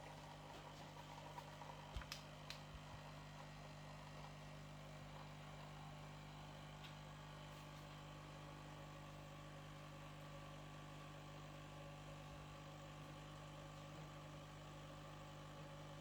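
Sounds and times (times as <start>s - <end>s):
coffee machine pump humming: 0.0s - 16.0s.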